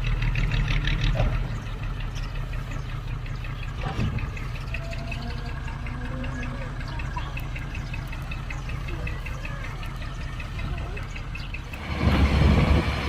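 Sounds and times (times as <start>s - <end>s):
rapid even ticking: 0.0s - 12.0s
heavy diesel engine running: 0.0s - 13.0s.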